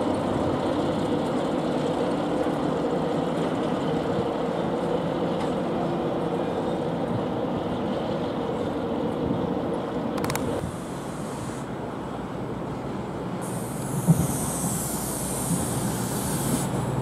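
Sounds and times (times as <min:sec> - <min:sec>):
diesel train engine idling: 0:00.0 - 0:17.0.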